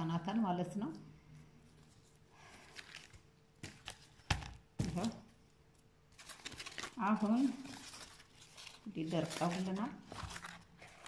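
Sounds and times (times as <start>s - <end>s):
handling craft materials: 1.6s - 11.0s.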